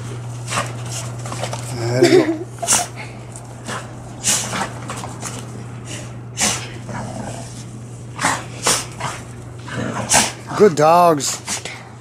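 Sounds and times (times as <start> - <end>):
dogs huffing and scuffling: 0.1 - 1.8, 2.6 - 11.9.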